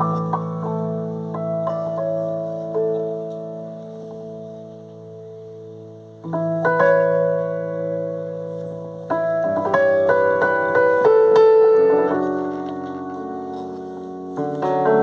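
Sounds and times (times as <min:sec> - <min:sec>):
slow piano playing: 0:00.0 - 0:15.0.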